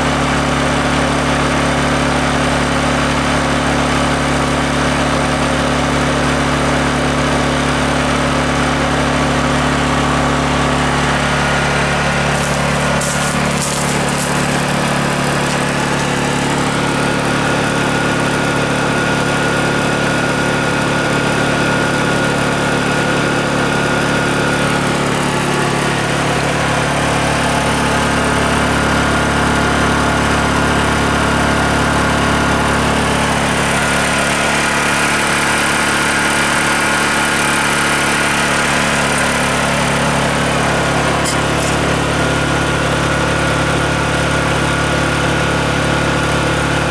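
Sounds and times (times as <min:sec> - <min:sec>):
generator engine running: 0:00.0 - 0:46.9.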